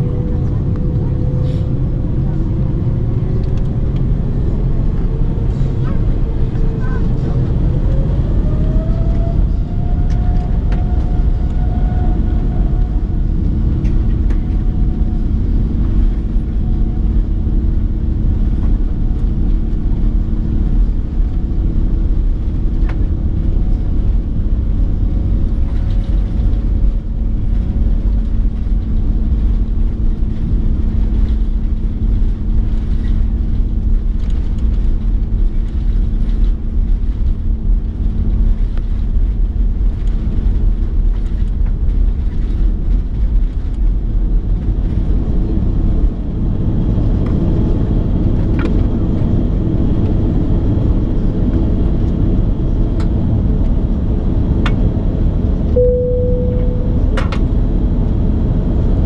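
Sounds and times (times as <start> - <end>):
deep steady rumble: 0.0 - 59.0
jet engine whine: 0.0 - 59.0.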